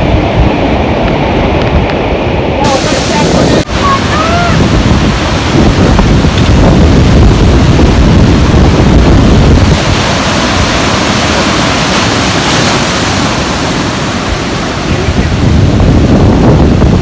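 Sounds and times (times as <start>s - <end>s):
sea surf breaking on beach: 0.0s - 17.0s
wind buffeting microphone: 0.0s - 17.0s.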